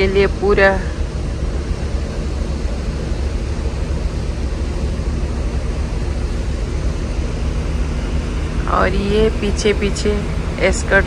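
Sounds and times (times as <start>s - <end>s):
faint machinery hum: 0.0s - 11.0s.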